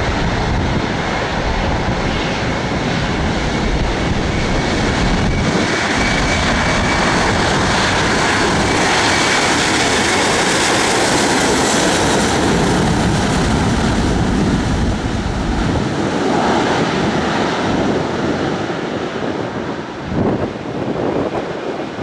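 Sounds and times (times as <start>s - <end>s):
aircraft engines roaring: 0.0s - 22.0s.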